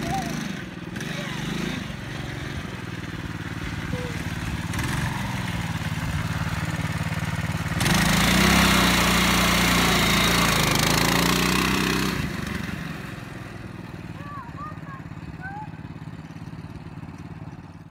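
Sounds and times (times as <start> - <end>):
small quad engine running: 0.0 - 17.9.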